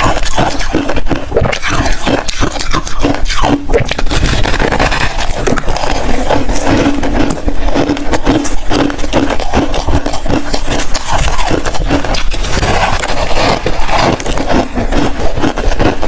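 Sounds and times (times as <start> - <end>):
ice being crunched and chewed: 0.0 - 16.0.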